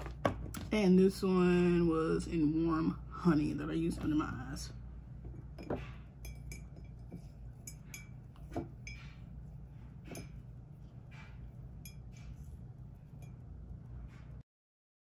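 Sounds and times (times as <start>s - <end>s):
low room hum: 0.0s - 14.4s.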